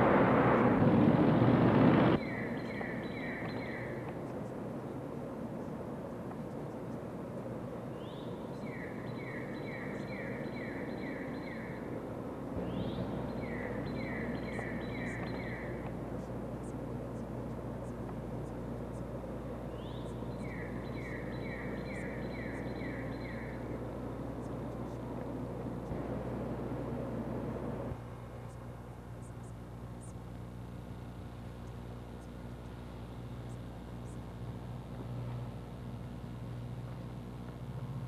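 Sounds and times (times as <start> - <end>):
low steady hum: 0.0 - 38.0
outdoor background noise: 0.0 - 38.0
songbird singing: 2.2 - 37.9.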